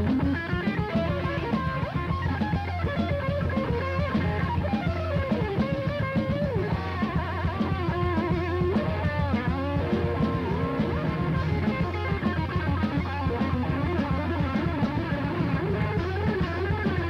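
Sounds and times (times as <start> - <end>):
busy drum kit: 0.0 - 17.0
electric guitar lead: 0.0 - 17.0
live metal band: 0.0 - 17.0.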